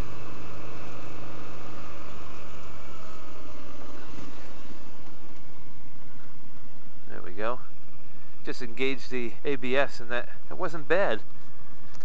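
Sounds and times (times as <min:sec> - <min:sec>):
motorcycle engine running: 0:00.0 - 0:09.9
wind and road noise: 0:00.0 - 0:12.0.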